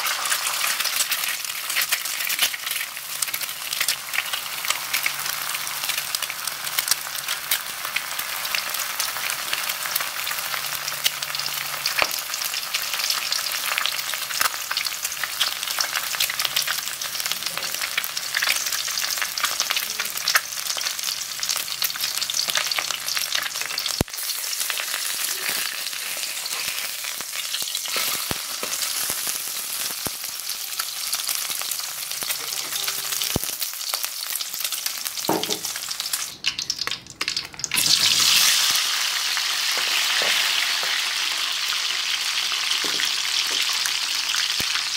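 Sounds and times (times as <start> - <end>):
egg sizzling in hot oil: 0.0 - 44.9.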